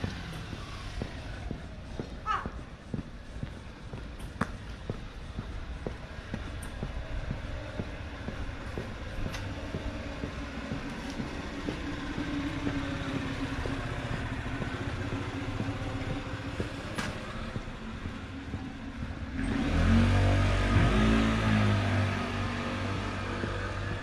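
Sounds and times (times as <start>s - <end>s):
footsteps on asphalt: 0.0s - 20.1s, 20.7s - 24.0s
passing vehicle hum: 0.0s - 24.0s.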